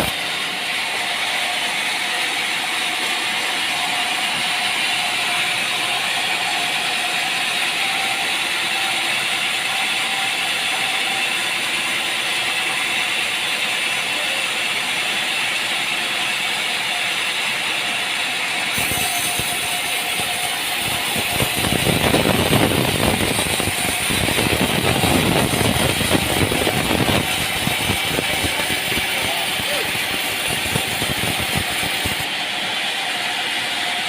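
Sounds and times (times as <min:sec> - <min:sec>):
sawmill machinery hiss: 0:00.0 - 0:34.0.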